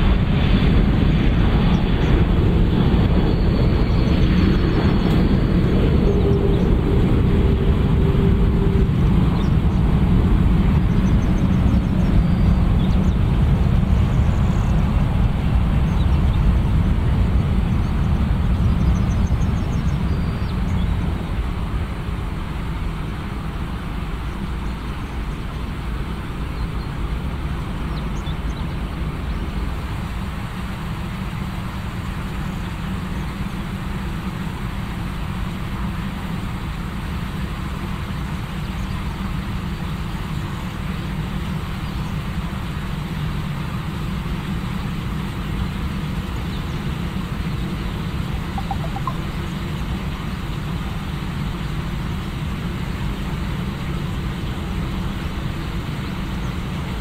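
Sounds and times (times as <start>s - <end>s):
jet engine rumble: 0.0s - 57.0s.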